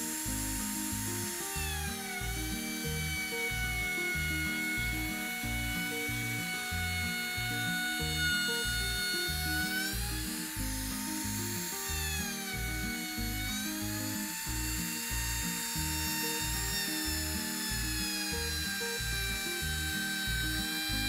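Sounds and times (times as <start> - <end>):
background music with steady beat: 0.0 - 21.0
trim router whine: 0.0 - 21.0.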